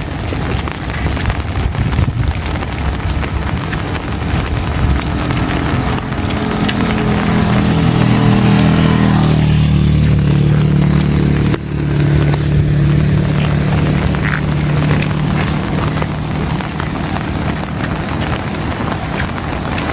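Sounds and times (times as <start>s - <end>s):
heavy rain hissing: 0.0s - 19.9s
vehicle engine running: 0.0s - 19.9s.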